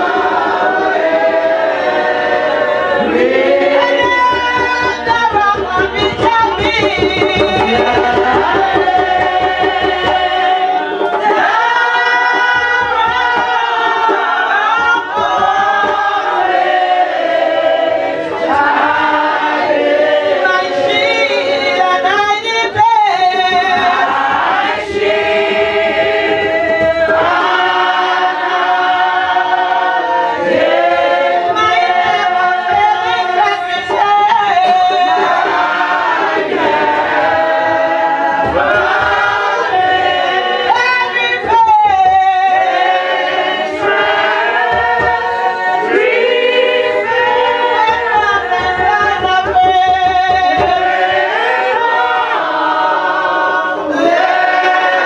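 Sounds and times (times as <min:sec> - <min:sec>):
amplified lead voices singing: 0:00.0 - 0:55.0
congregation singing: 0:00.0 - 0:55.0.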